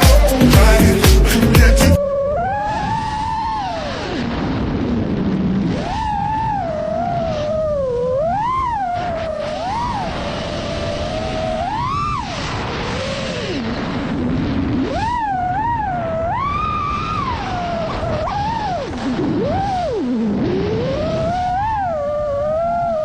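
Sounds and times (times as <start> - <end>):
steady rush of noise: 0.0 - 23.0.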